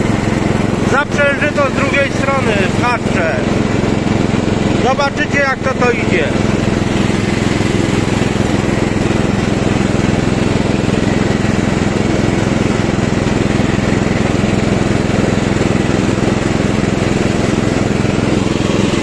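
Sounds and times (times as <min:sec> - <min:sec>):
lawn mower engine running: 0:00.0 - 0:19.0
mower blades cutting grass: 0:00.0 - 0:19.0.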